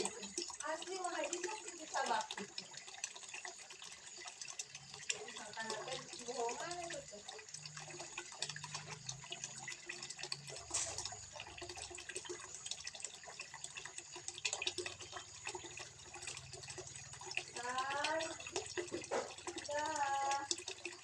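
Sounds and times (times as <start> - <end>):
water dripping: 0.0 - 21.0
water trickling into pond: 0.0 - 21.0.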